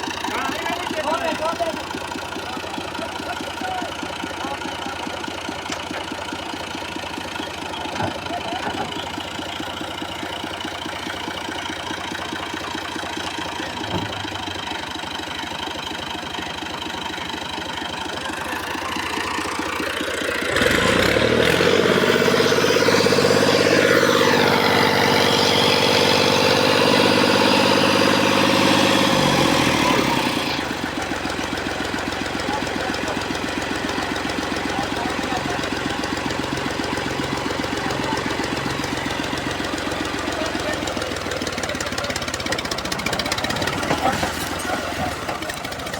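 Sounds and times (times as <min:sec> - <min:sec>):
tractor diesel engine revving: 0:00.0 - 0:45.9.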